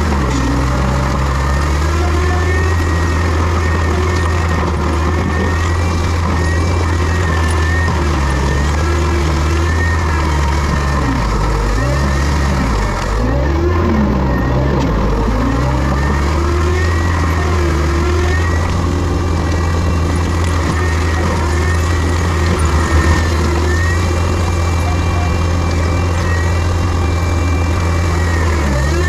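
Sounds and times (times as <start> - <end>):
heavy diesel machine engine drone: 0.0 - 29.0.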